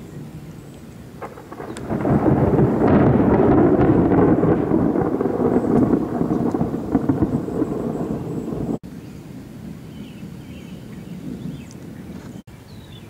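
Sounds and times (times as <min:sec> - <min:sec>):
thunder rumble: 0:00.0 - 0:12.5.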